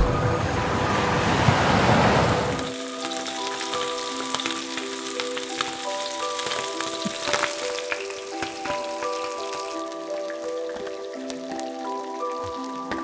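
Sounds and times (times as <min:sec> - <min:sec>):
soft background music: 0:00.0 - 0:13.0
oil sizzling in a frying pan: 0:02.6 - 0:13.0.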